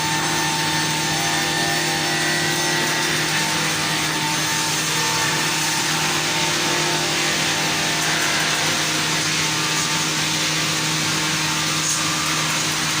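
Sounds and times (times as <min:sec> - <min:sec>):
circular saw machine humming: 0:00.0 - 0:13.0.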